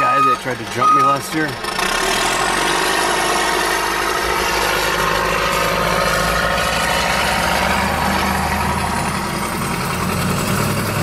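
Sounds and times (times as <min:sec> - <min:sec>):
rough rasping mechanical noise: 0:00.0 - 0:11.0
vehicle engines idling: 0:00.0 - 0:11.0.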